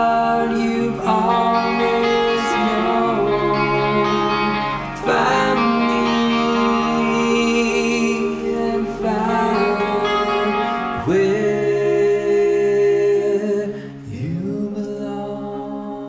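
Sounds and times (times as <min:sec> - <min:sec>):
guitar: 0:00.0 - 0:16.0
person singing long notes: 0:00.0 - 0:16.0.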